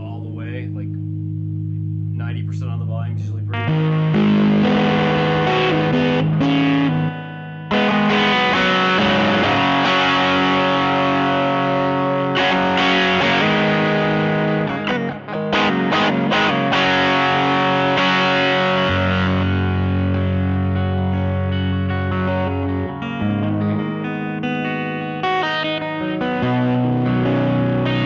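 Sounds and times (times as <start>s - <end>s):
fuzzy electric guitar chords: 0.0s - 28.0s.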